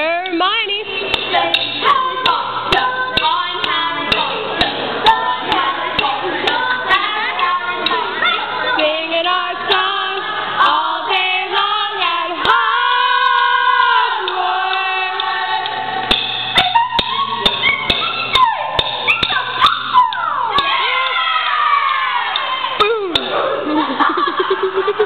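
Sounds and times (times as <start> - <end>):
young people singing unaccompanied: 0.6 - 24.9.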